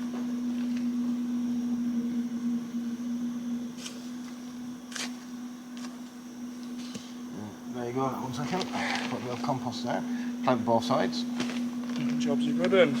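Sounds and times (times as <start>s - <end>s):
flying insect buzzing: 0.0s - 13.0s.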